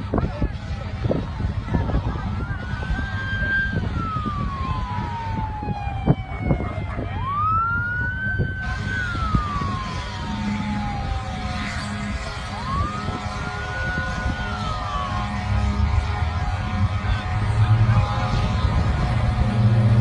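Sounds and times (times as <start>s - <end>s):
emergency siren wailing: 0.0s - 20.0s
low rumble: 0.0s - 20.0s.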